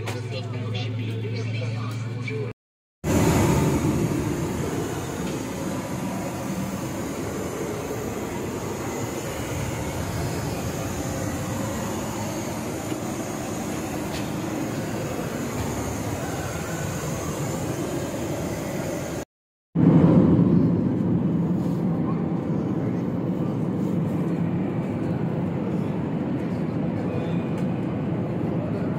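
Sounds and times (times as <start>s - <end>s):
airliner cabin noise: 3.0s - 28.9s.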